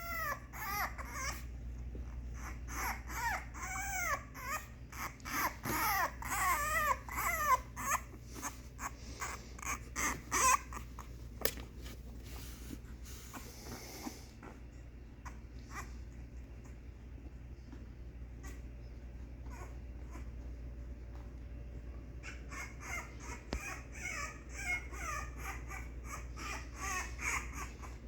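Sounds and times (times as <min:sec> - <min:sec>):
puppies whining and crying: 0:00.0 - 0:11.4, 0:12.0 - 0:17.2, 0:17.8 - 0:21.2, 0:22.0 - 0:28.0.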